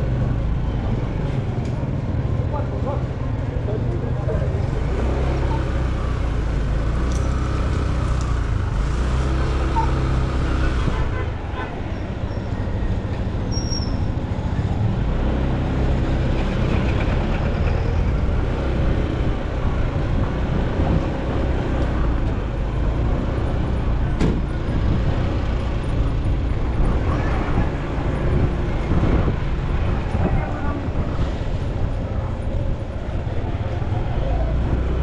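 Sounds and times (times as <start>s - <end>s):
road noise: 0.0s - 35.0s.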